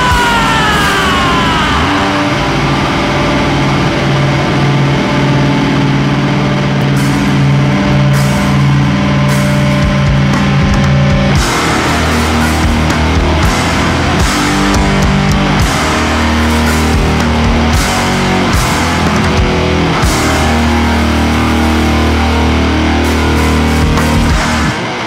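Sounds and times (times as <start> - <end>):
hardcore punk band playing: 0.0 - 25.0.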